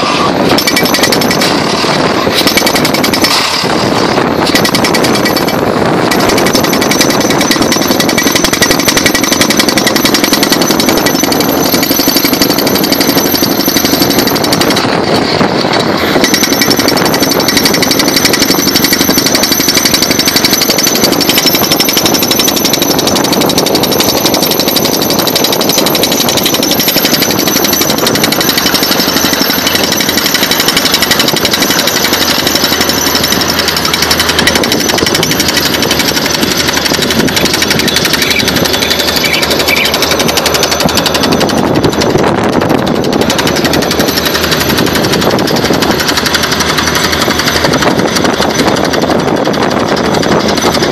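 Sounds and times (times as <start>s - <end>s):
pile driver pounding steel post: 0.0s - 50.9s.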